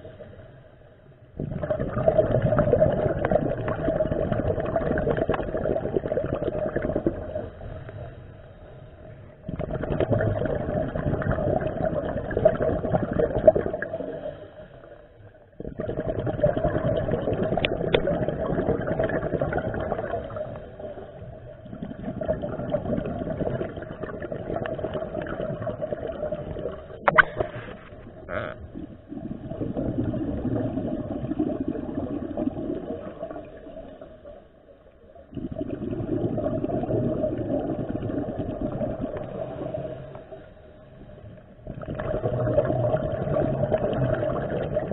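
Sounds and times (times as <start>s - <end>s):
exhaled bubbles underwater: 1.2s - 44.9s.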